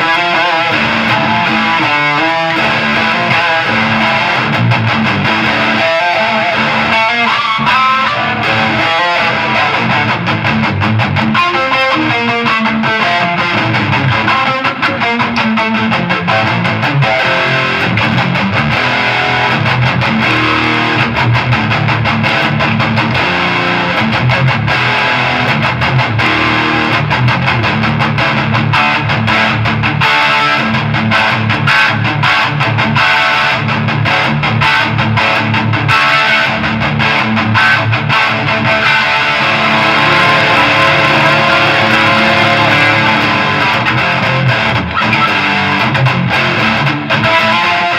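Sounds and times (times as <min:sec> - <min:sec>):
distorted electric guitar riffing: 0:00.0 - 0:47.9.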